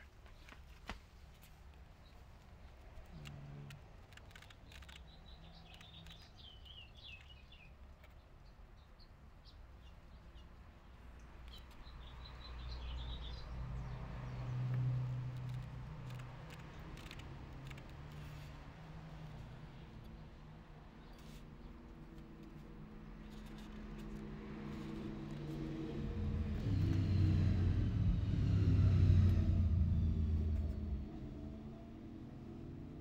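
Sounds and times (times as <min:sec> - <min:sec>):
small birds chirping: 0:01.9 - 0:29.5.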